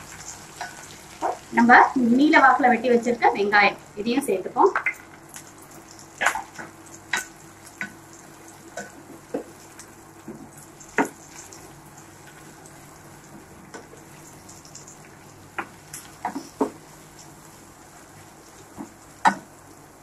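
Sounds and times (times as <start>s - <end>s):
onions sizzling faintly: 0.0s - 20.0s.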